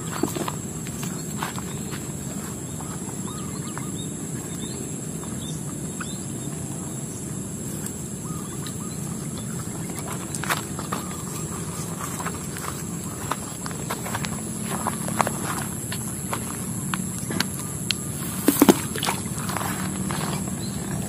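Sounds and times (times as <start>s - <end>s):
high-pitched whine: 0.0s - 21.0s
low outdoor rumble: 0.0s - 21.0s.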